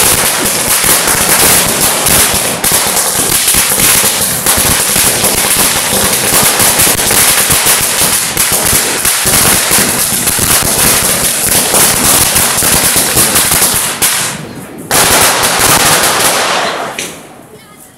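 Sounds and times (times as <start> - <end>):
firecrackers going off: 0.0 - 17.8.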